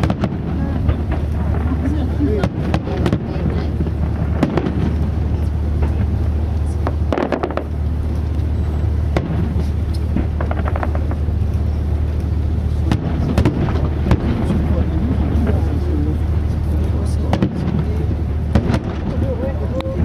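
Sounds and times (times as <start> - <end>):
fireworks bangs and crackling: 0.0 - 20.0
steady low rumble: 0.0 - 20.0.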